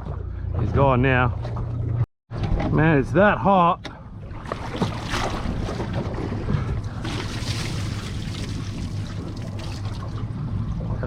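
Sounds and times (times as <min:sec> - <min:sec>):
water lapping against boat hull: 0:00.0 - 0:03.0, 0:03.8 - 0:11.0.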